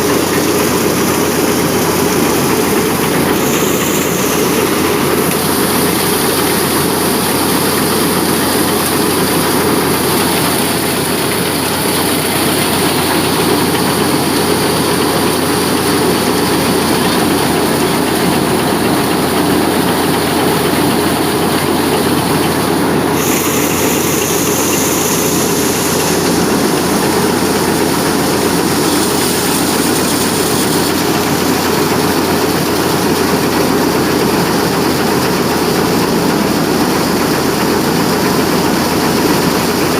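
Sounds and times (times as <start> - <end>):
tractor engine: 0.0 - 39.9
wheat thresher running: 0.0 - 39.9.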